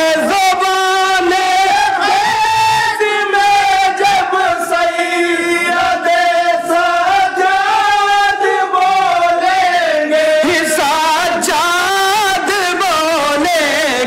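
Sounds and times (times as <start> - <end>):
men singing in unison: 0.0 - 14.0.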